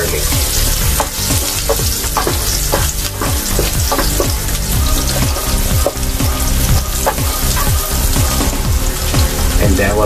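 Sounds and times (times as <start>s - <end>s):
background music with steady beat: 0.0s - 10.0s
garlic sizzling in a frying pan: 0.0s - 10.0s.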